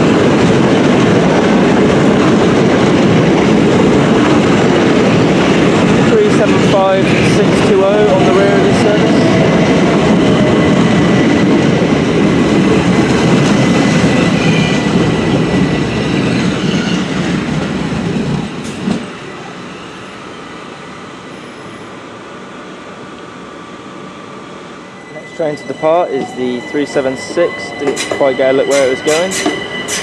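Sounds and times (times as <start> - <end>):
steady train hum: 0.0 - 30.0
train wheels rumbling on rail: 0.0 - 30.0.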